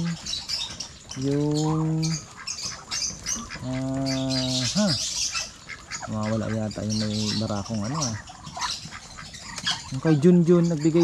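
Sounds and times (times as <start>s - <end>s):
ducks and chickens chirping: 0.0s - 11.0s.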